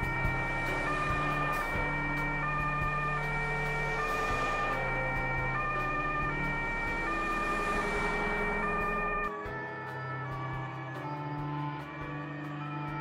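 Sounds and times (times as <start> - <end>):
two-tone emergency siren: 0.0 - 13.0.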